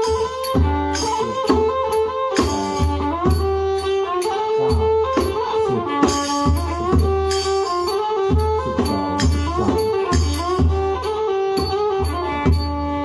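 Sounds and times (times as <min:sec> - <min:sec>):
bright ticking percussion: 0:00.0 - 0:13.0
low barrel drum beats: 0:00.0 - 0:13.0
two-string fiddle melody: 0:00.0 - 0:13.0.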